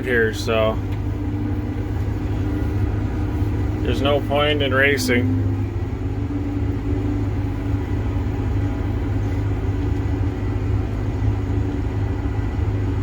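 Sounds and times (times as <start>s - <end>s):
combine harvester hum from cab: 0.0s - 13.0s.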